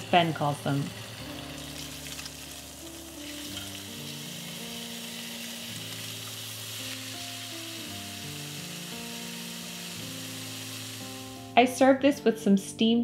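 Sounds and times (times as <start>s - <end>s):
steaks sizzling in a pan: 0.0s - 11.8s
soft music: 0.0s - 13.0s.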